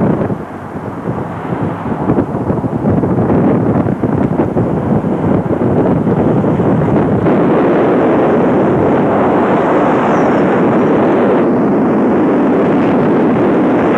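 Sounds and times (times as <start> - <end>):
road and engine noise: 0.0 - 13.9
wind buffeting microphone: 0.0 - 13.9.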